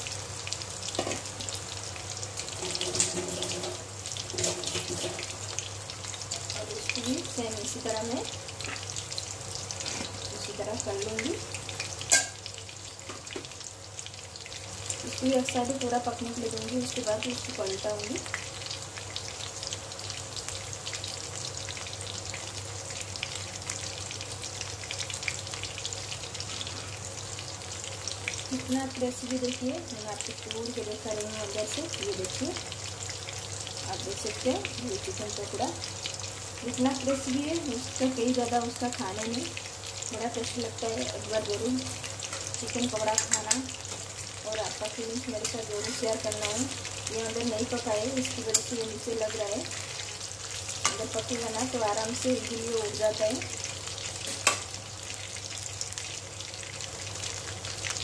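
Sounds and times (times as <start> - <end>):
batter deep-frying in oil: 0.0 - 58.0.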